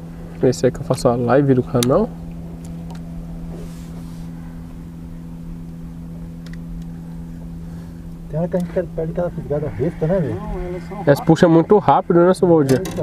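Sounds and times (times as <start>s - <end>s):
faint low rumble: 0.0s - 13.0s
motor hum: 0.0s - 13.0s.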